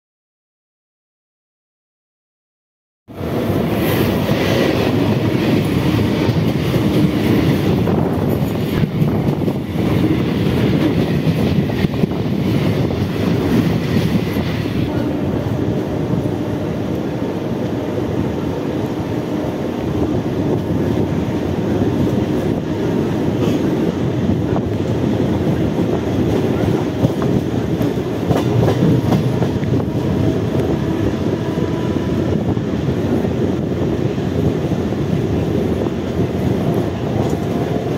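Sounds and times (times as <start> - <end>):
passing train rush: 3.1 - 37.9
rail joints clickety-clack: 3.1 - 37.9
train wheels rumbling on rail: 3.1 - 37.9.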